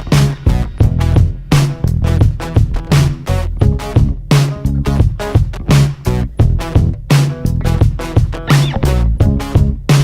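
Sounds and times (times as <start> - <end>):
funky guitar-led music: 0.0 - 10.0.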